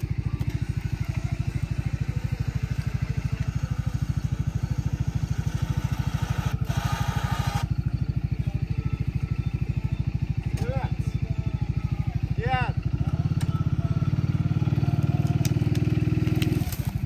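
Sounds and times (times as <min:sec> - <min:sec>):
high-pitched whine: 0:00.0 - 0:15.1
atv engine idling: 0:00.0 - 0:17.0.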